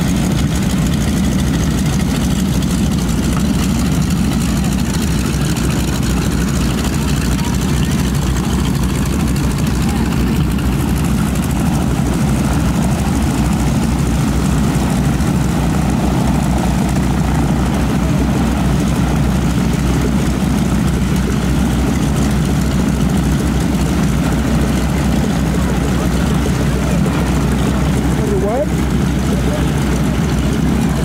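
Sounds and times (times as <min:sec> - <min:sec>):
propeller aircraft engines idling: 0:00.0 - 0:31.0.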